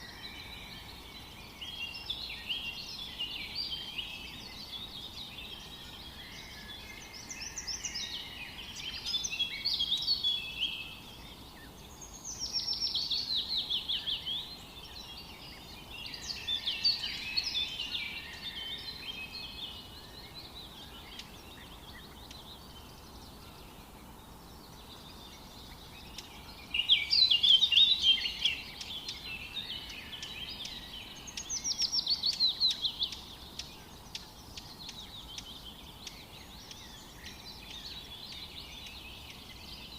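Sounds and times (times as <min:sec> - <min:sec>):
faint background hiss: 0:00.0 - 0:39.9
songbird singing: 0:00.0 - 0:39.9.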